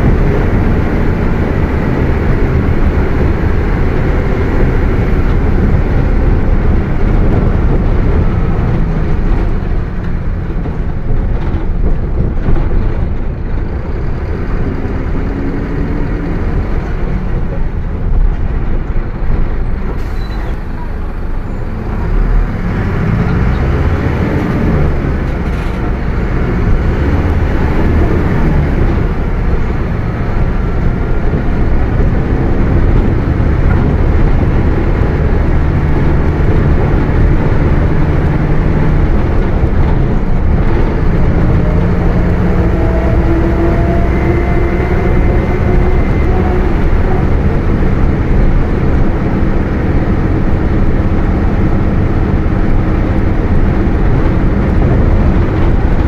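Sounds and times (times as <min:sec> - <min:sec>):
bus diesel rumble: 0:00.0 - 0:56.0.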